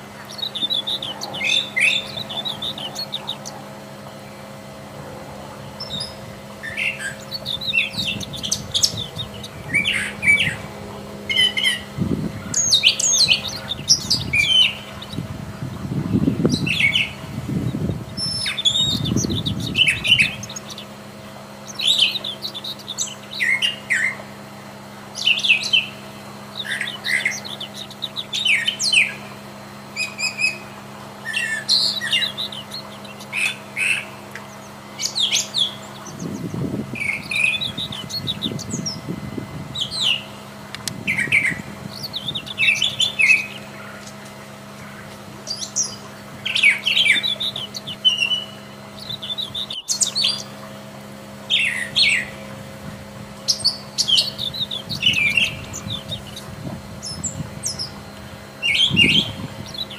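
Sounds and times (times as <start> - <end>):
bird singing varied phrases: 0.0 - 59.9.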